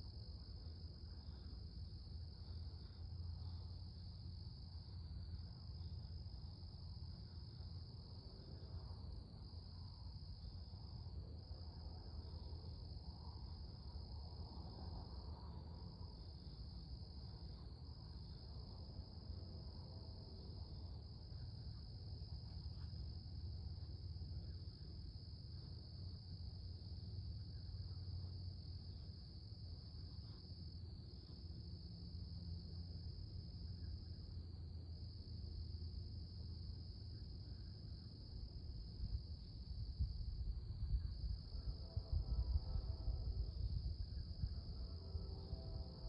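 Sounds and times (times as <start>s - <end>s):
faint low rumble: 0.0s - 46.0s.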